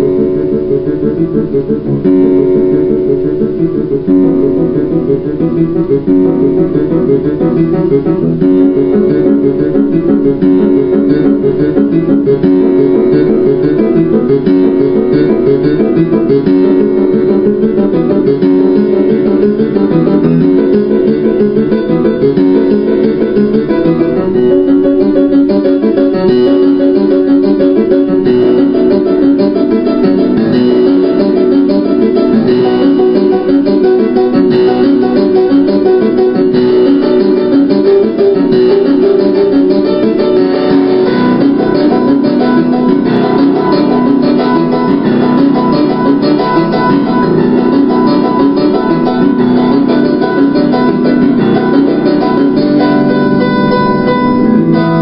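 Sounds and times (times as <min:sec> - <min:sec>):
plucked strings film music: 0:00.0 - 0:55.0.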